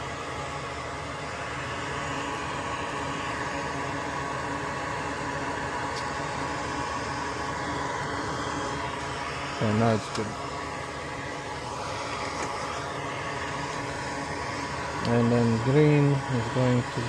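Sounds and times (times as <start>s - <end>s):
electric blower whirring: 0.0s - 17.0s.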